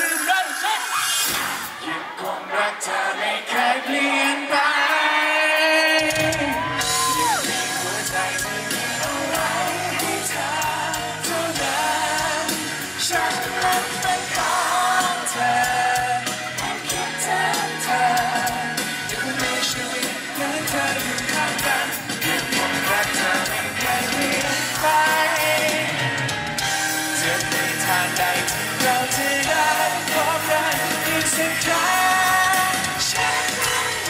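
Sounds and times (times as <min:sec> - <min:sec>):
man singing into a microphone: 0:01.8 - 0:26.2, 0:27.0 - 0:34.0
live pop band playing: 0:03.4 - 0:34.0
drum beat: 0:06.0 - 0:34.0.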